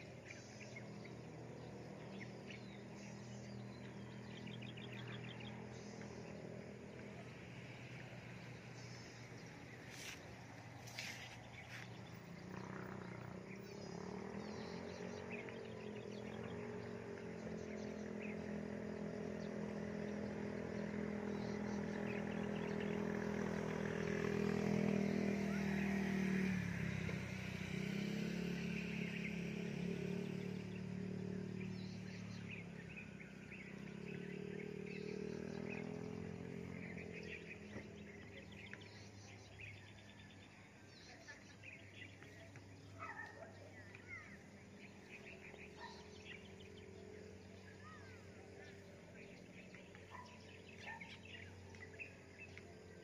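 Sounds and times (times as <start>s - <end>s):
low steady humming drone: 0.0s - 53.0s
small birds chirping: 0.0s - 53.0s.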